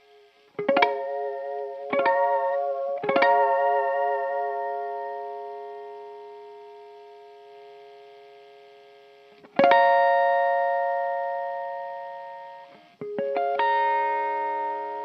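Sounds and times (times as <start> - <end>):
electric guitar chords: 0.0 - 15.0
picked guitar notes: 0.0 - 15.0.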